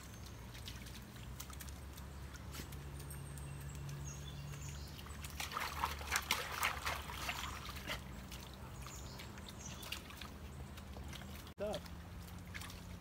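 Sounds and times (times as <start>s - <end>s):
creek water trickling: 0.0s - 13.0s
dogs splashing through water: 0.0s - 13.0s.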